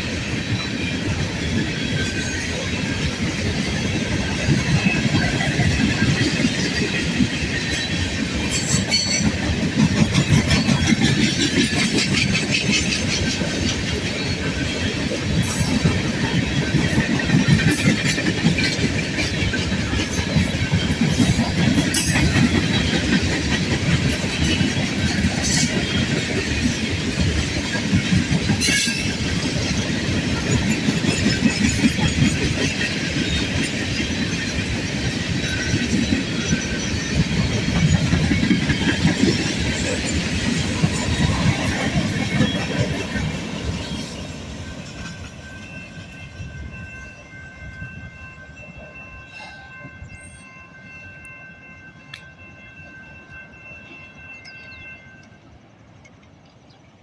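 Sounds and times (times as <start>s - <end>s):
wheels clicking over rail joints: 0.0s - 46.6s
freight train rumbling: 0.0s - 57.0s.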